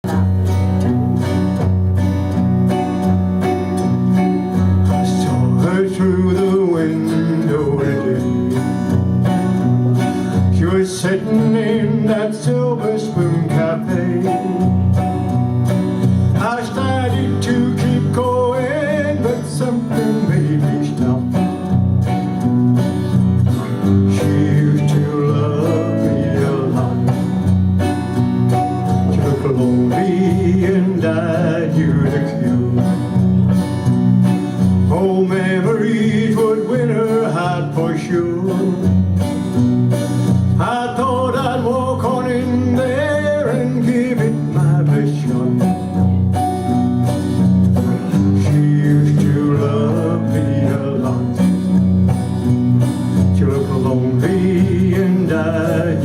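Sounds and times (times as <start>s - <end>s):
country song instrumental: 0.0s - 56.0s.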